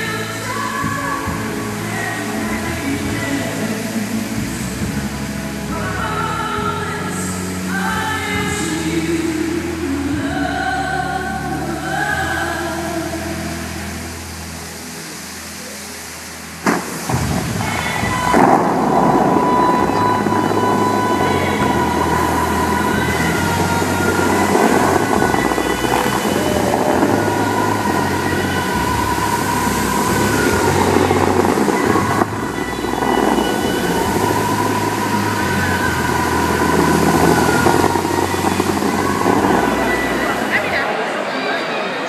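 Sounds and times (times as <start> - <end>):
fountain water jets spraying: 0.0 - 42.0
music with long held notes: 0.0 - 42.0.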